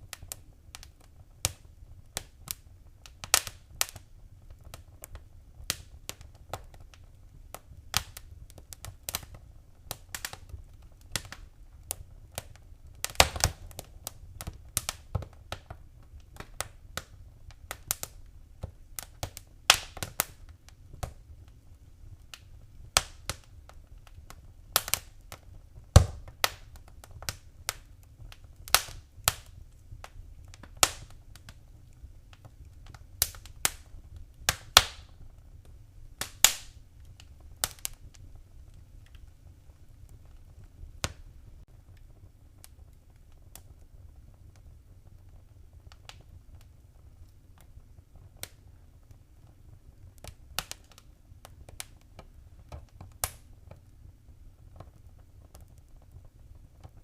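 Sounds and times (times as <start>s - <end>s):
sharp pops from fire: 0.0s - 57.0s
wood fire crackling: 0.0s - 57.0s.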